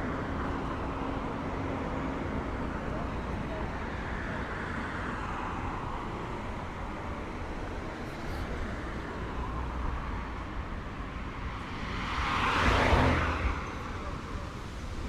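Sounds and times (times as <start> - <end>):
passing cars hum: 0.0 - 15.0.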